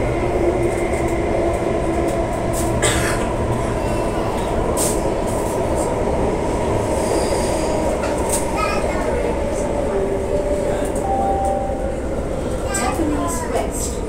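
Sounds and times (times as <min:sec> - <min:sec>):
train rumbling inside carriage: 0:00.0 - 0:14.0.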